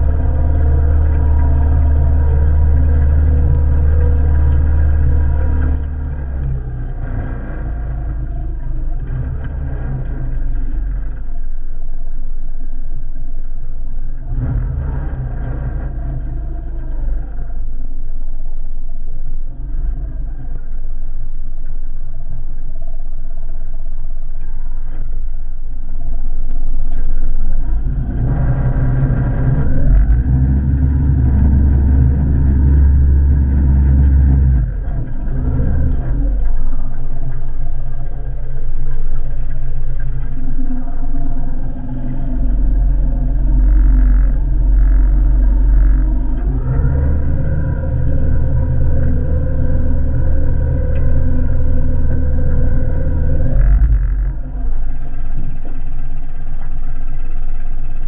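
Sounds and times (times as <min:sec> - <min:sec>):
outboard motor droning: 0:00.0 - 0:58.0.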